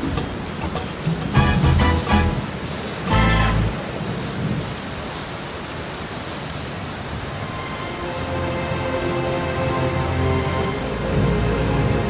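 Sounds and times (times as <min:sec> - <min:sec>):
wind and rough sea rushing: 0:00.0 - 0:12.0.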